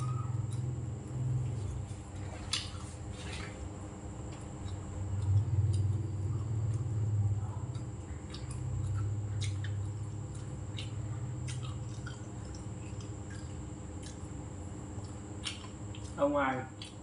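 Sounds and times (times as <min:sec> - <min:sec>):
low hum: 0:00.0 - 0:16.2
person chewing with wet smacking: 0:00.0 - 0:17.0.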